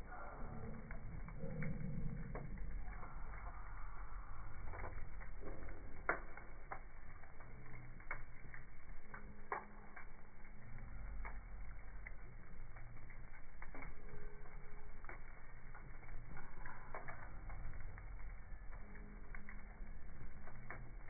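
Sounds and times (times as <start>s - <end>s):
low rumble of flames: 0.0s - 21.0s
wood fire crackling: 0.0s - 21.0s.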